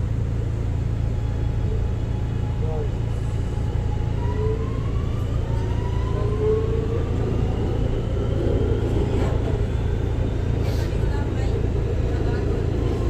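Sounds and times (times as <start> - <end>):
subway train inverter whining: 0.0 - 13.0.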